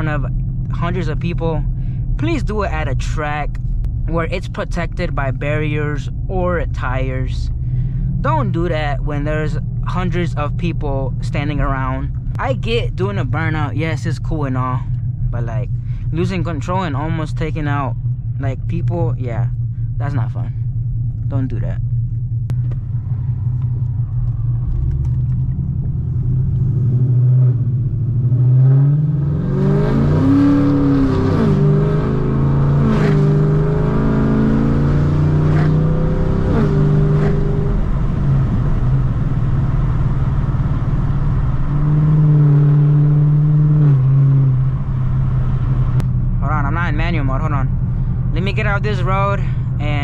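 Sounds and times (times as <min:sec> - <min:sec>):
car exhaust accelerating: 0:00.0 - 0:50.0.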